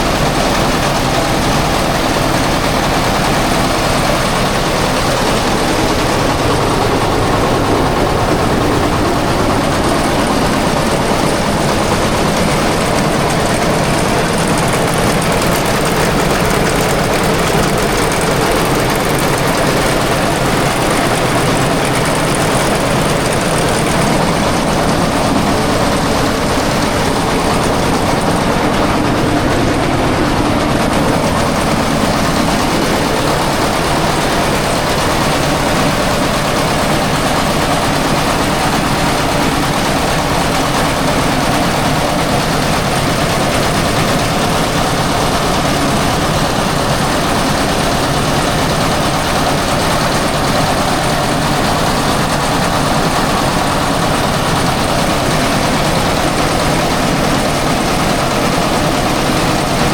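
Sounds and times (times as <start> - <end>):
threshing machine running: 0.0 - 59.9.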